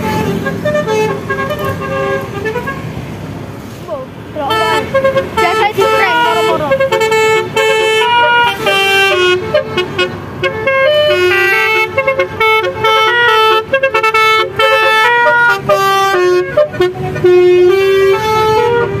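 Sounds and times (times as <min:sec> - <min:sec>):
musical car horn tune: 0:00.0 - 0:02.9, 0:04.4 - 0:19.0.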